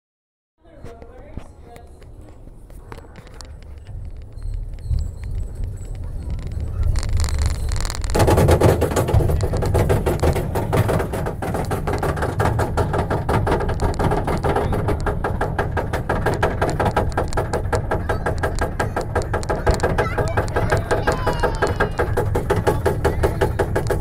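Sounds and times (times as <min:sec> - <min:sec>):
low rumble: 0:02.1 - 0:22.4
lift chain clicking: 0:02.9 - 0:24.0.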